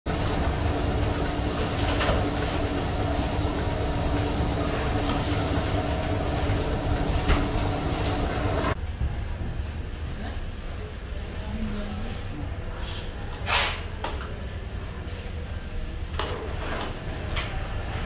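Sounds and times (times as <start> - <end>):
machinery hum and rumble: 0.1 - 18.0.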